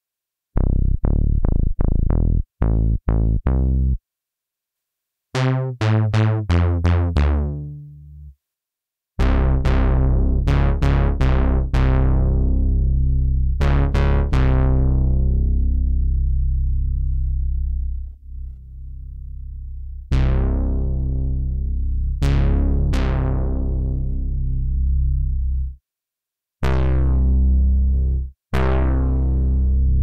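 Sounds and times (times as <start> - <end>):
synthesizer bass notes: 0.6 - 4.0, 5.4 - 8.3, 9.2 - 25.8, 26.6 - 30.0.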